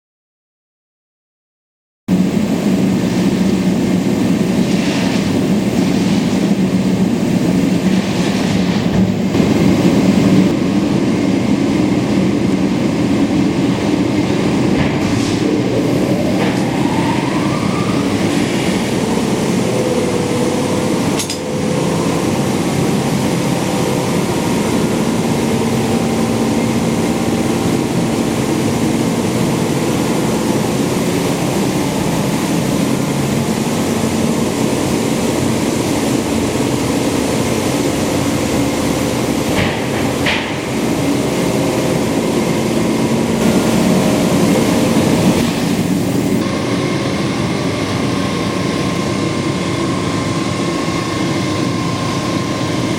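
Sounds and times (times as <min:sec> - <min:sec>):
hydraulic press humming: 0:02.1 - 0:52.9
rising whine: 0:09.2 - 0:52.9.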